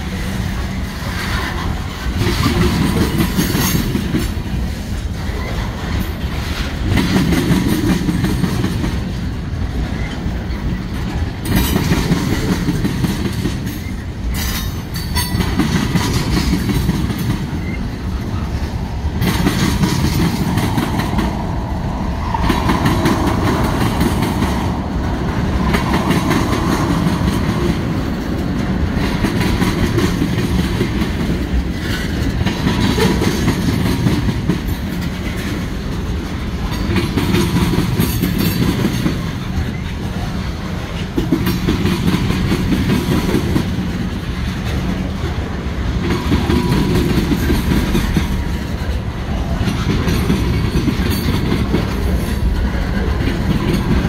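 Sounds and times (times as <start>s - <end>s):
freight train cars rolling past: 0.0s - 54.0s.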